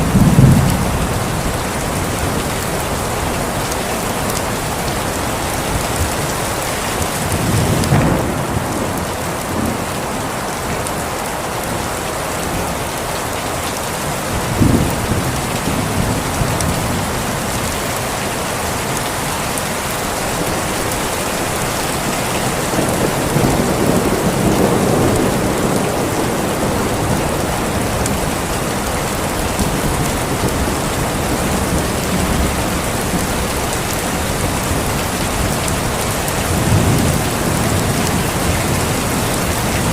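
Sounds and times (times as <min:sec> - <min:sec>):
thunder rumbling: 0:00.0 - 0:11.0, 0:14.3 - 0:18.0, 0:20.3 - 0:39.9
steady rain: 0:00.0 - 0:39.9.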